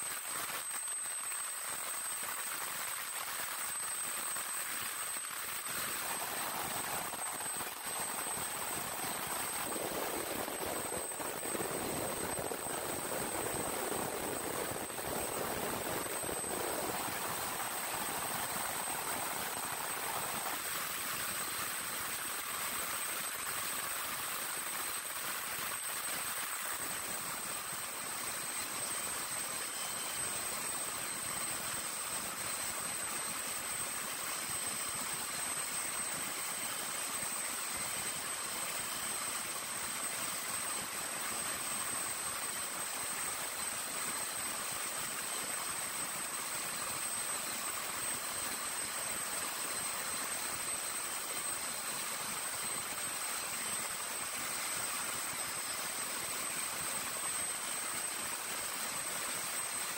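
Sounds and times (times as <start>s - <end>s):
machine hiss with high whine: 0.0s - 59.9s.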